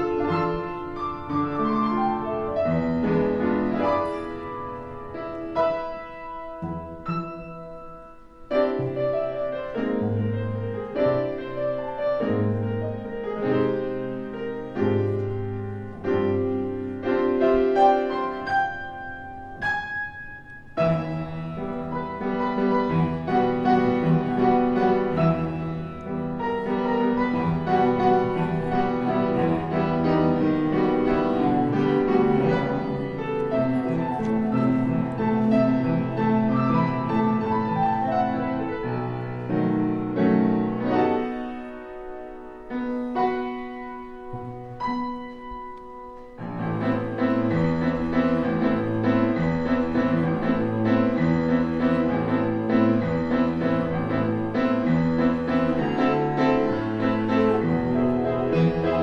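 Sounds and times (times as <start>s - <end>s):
piano background music: 0.0s - 59.0s.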